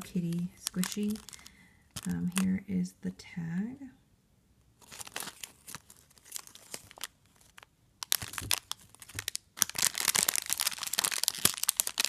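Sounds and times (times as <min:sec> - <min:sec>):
cellophane bag crinkling: 0:00.0 - 0:02.6, 0:04.8 - 0:12.0.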